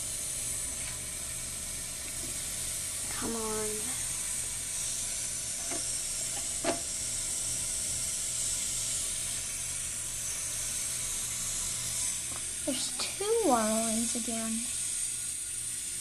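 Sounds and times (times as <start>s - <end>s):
toilet tank refilling hiss: 0.0s - 16.0s.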